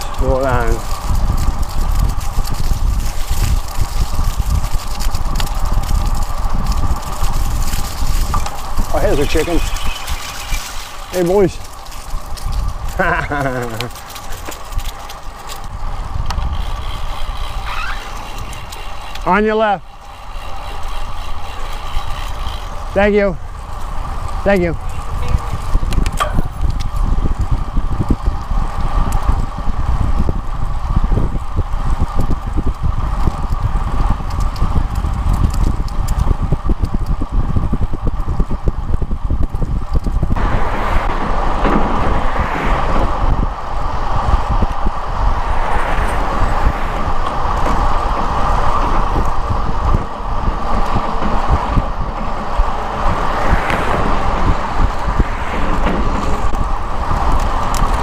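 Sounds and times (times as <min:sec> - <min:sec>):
bike knocks and rattles: 0:00.0 - 0:40.4, 0:41.2 - 0:42.4, 0:47.0 - 0:58.0
tyre noise on asphalt: 0:00.0 - 0:58.0
wind buffeting microphone: 0:00.0 - 0:58.0.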